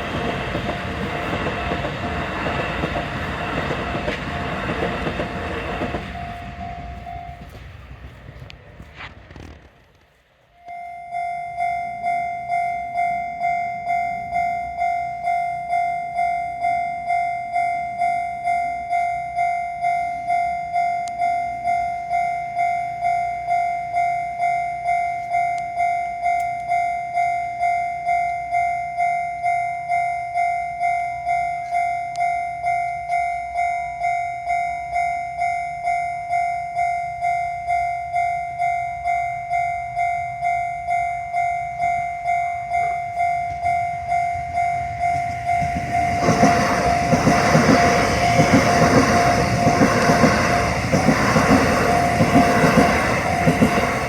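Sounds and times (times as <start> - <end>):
level crossing warning bell: 0.0 - 8.0, 10.6 - 54.0.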